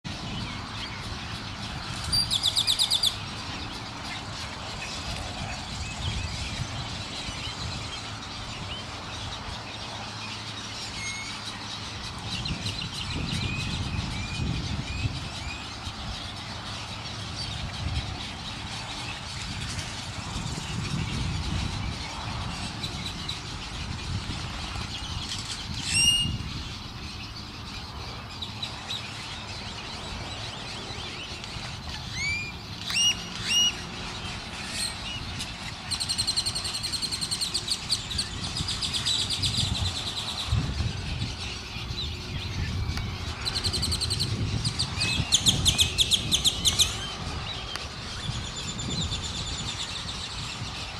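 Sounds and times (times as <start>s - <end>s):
birds calling: 0.1s - 50.9s.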